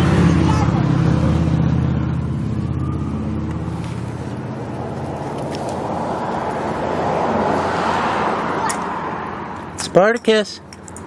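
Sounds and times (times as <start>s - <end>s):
steady background noise: 0.0s - 11.0s
vehicle engine humming: 0.0s - 11.0s.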